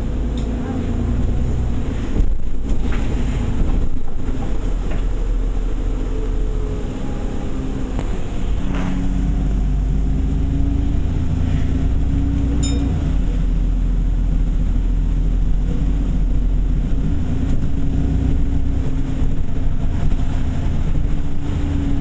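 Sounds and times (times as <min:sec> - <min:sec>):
diesel bus engine rumble: 0:00.0 - 0:22.0.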